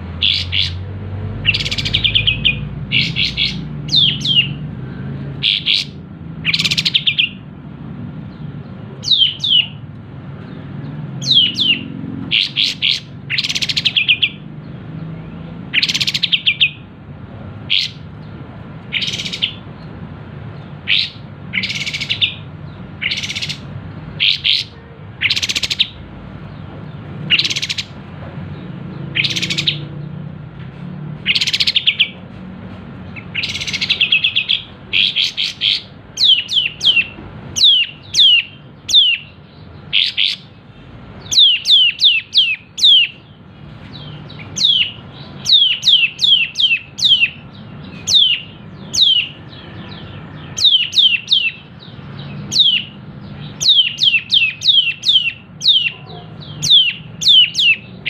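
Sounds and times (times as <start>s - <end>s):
bird chirping sharply: 0.0s - 7.4s, 8.3s - 9.8s, 10.4s - 16.9s, 17.6s - 30.1s, 31.2s - 32.2s, 33.0s - 58.0s.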